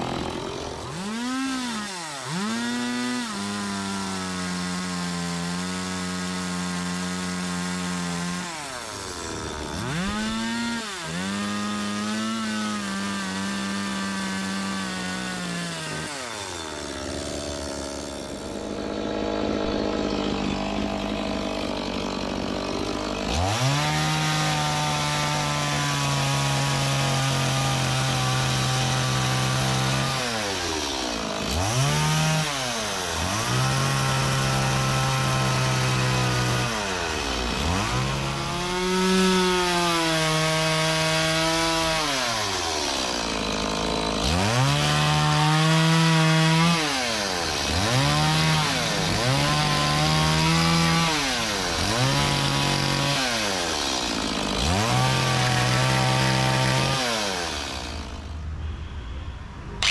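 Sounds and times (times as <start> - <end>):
chainsaw cutting wood: 0.0 - 58.4.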